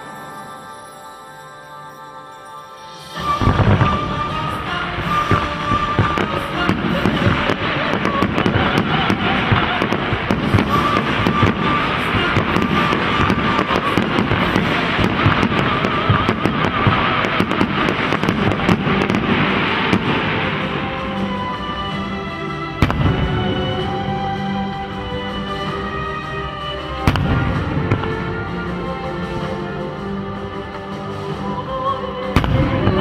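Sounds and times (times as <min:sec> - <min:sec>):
music playing: 0:00.0 - 0:33.0
fireworks crackling and popping: 0:02.8 - 0:33.0.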